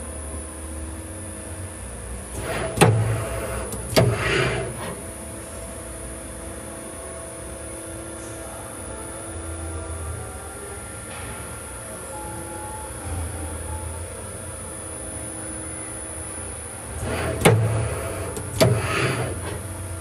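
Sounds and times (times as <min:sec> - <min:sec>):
grinder motor hum: 0:02.3 - 0:20.0.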